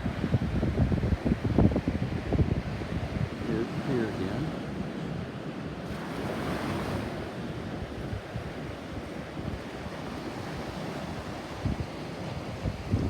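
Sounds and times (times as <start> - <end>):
wind buffeting microphone: 0.0 - 4.2, 6.0 - 13.0
ocean surf washing ashore: 0.0 - 13.0.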